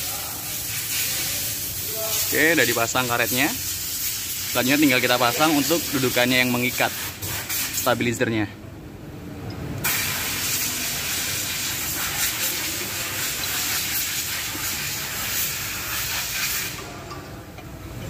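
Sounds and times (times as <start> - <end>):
loud steady hiss: 0.0 - 8.3, 9.8 - 16.9.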